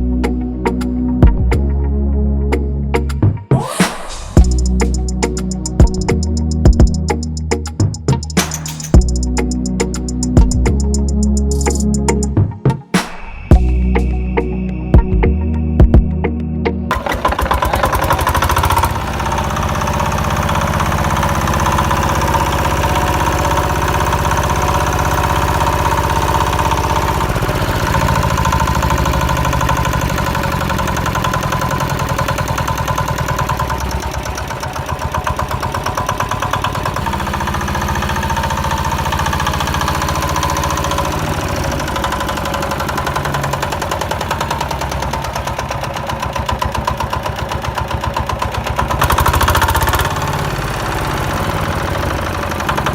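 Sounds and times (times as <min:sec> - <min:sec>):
small tractor engine running: 0:04.4 - 0:12.3, 0:16.9 - 0:52.9.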